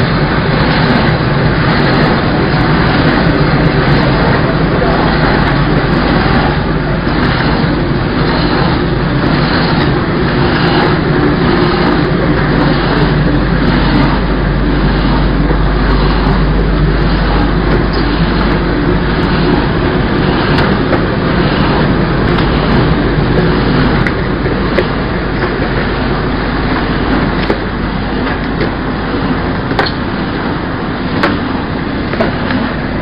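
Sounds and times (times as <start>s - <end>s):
packing machine humming: 0.0s - 33.0s.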